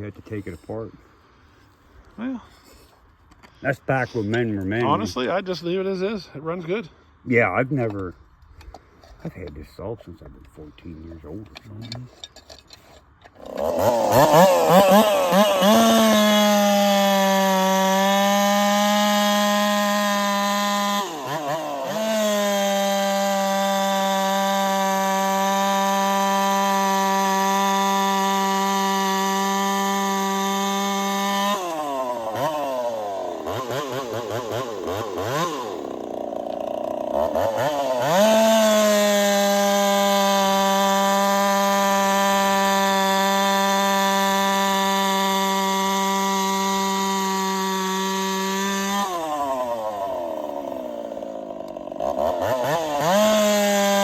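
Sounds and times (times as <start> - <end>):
chainsaw cutting wood: 1.5 - 6.1, 7.7 - 54.0.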